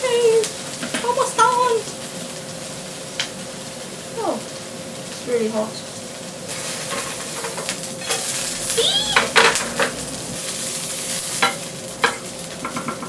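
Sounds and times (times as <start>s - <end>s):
pancake sizzling in frying pan: 0.0s - 13.0s.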